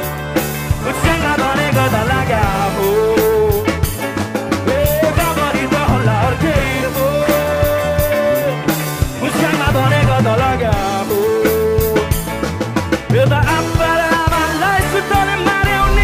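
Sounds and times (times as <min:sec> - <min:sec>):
band with drums: 0:00.0 - 0:16.0
man singing live: 0:00.0 - 0:16.0.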